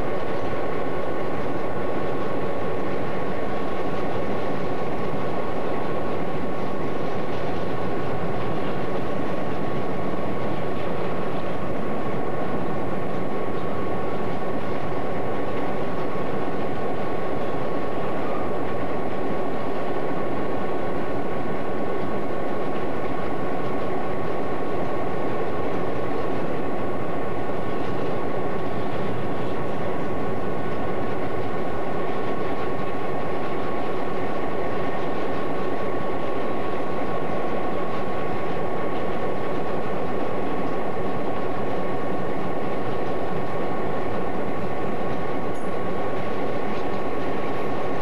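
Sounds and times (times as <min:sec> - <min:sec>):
freight cars rumbling over rails: 0:00.0 - 0:48.0.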